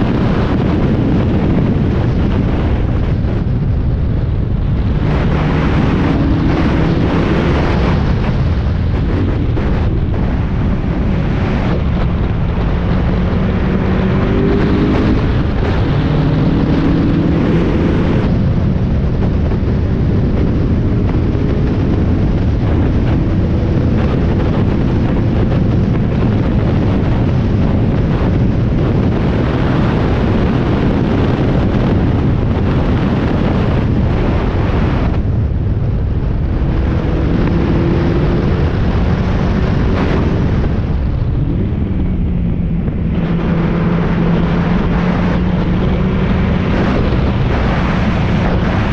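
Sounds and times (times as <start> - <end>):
race car engine running hard: 0.0 - 48.9
wind buffeting microphone: 0.0 - 48.9.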